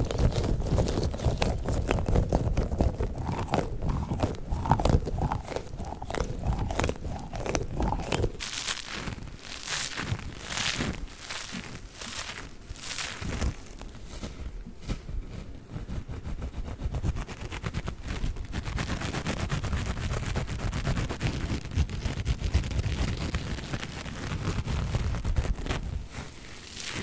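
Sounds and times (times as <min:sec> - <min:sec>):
scouring sponges scratchy crackle: 0:00.0 - 0:27.0.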